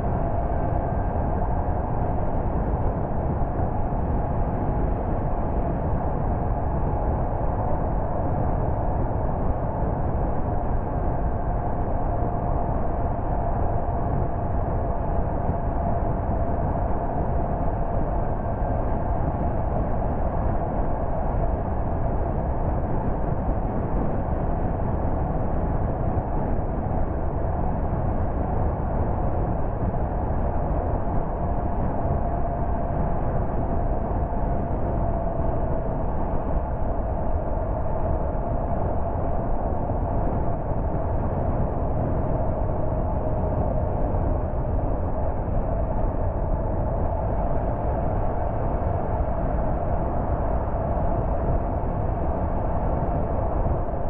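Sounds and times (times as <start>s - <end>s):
faint constant hum: 0.0s - 54.0s.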